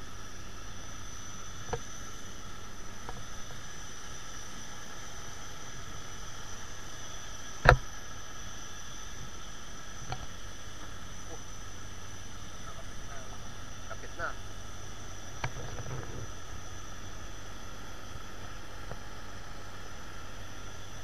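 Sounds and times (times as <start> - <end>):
jet airliner whine and rumble: 0.0 - 21.0.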